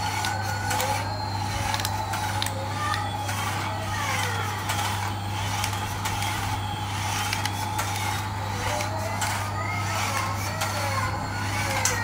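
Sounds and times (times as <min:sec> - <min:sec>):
toy drive motor whirring: 0:00.0 - 0:12.0
toy electronic jet-engine noise: 0:00.0 - 0:12.0.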